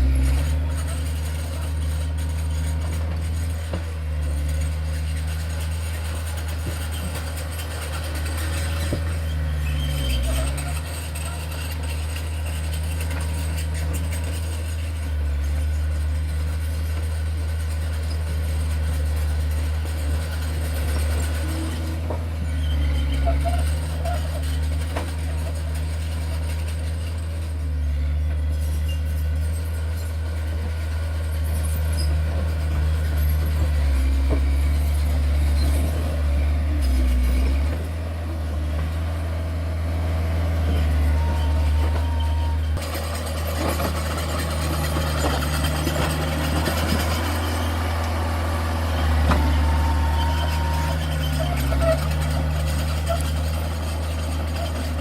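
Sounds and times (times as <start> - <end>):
diesel machinery engine rumbling: 0.0 - 55.0.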